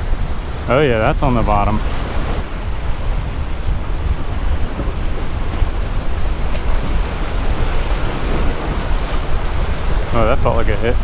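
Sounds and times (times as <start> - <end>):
surf breaking against rocks: 0.0 - 11.0
wind buffeting microphone: 0.0 - 11.0.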